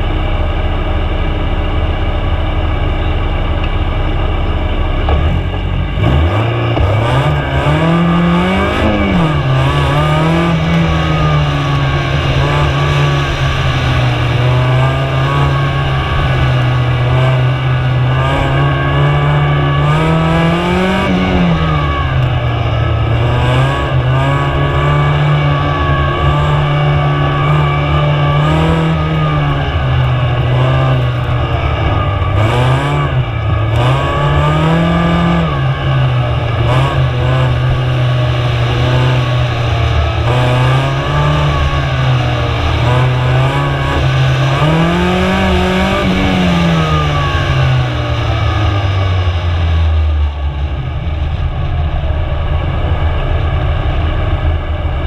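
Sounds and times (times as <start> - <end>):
car engine pulling hard: 0.0 - 55.0.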